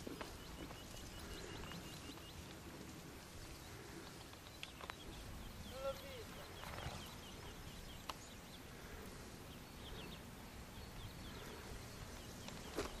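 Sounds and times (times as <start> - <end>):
small birds chirping: 0.0 - 13.0
steady outdoor hiss: 0.0 - 13.0.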